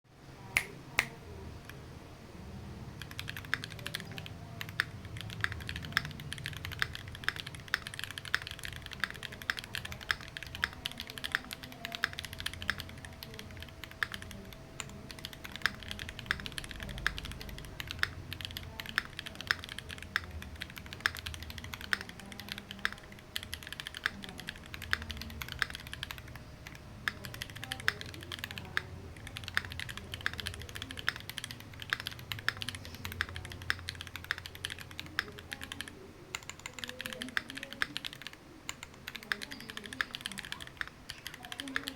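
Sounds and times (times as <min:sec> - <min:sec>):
mechanical keyboard typing: 0:02.9 - 0:41.9.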